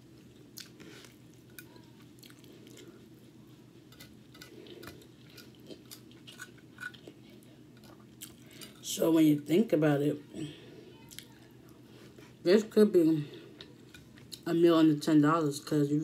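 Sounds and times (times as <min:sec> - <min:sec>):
soft chewing: 0:00.0 - 0:09.0, 0:10.2 - 0:14.5.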